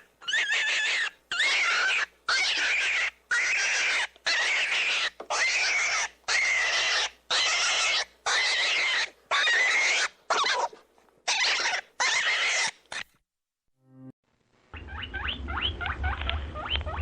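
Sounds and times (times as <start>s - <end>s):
rabbit squealing: 0.0s - 13.2s, 14.7s - 17.0s.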